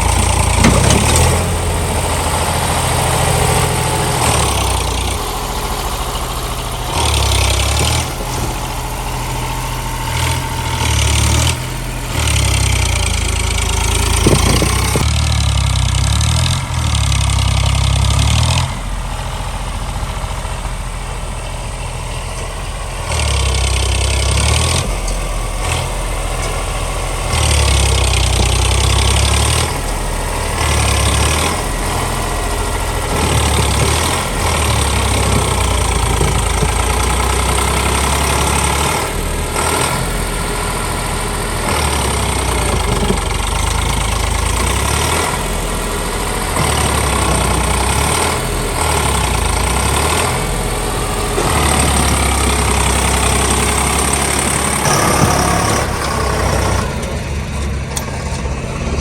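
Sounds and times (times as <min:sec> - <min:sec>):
tractor diesel engine: 0:00.0 - 0:59.0.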